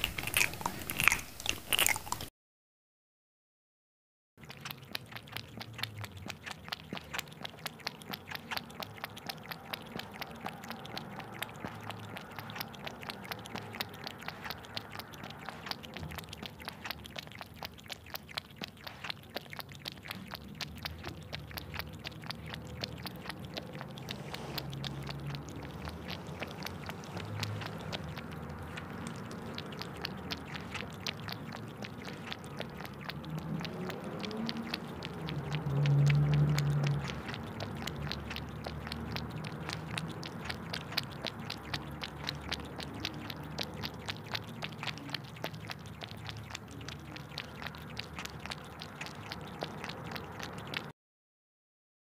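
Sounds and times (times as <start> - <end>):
wet chewing and mouth smacking: 0.0 - 2.3, 4.4 - 50.9.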